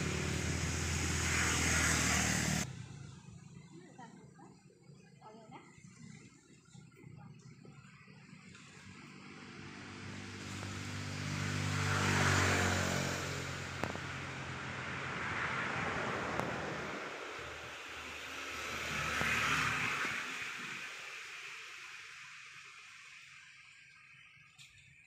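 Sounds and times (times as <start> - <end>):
vehicles driving past: 0.0 - 23.6.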